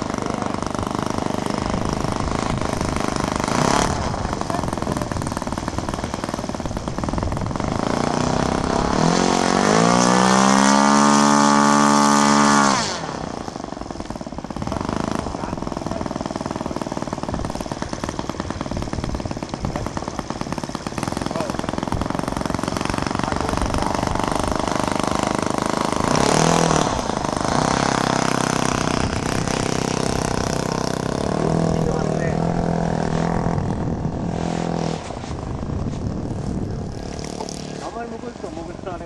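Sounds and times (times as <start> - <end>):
small plane engine: 0.0 - 39.0.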